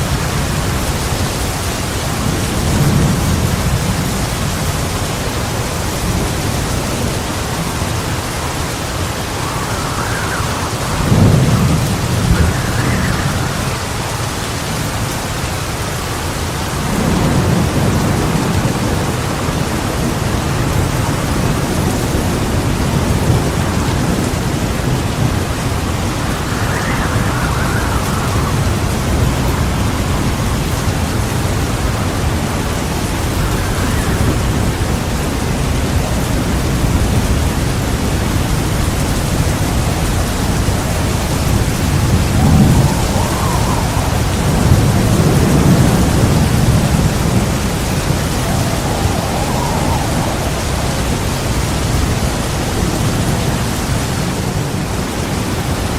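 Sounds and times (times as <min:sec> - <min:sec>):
heavy rain falling: 0:00.0 - 0:55.9
thunder rumbling: 0:00.0 - 0:55.9.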